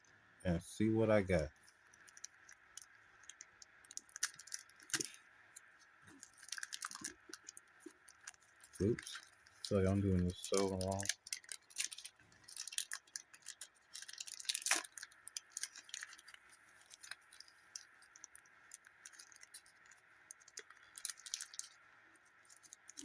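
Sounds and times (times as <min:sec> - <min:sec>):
wrapper crinkling and crackling: 0:01.7 - 0:23.0.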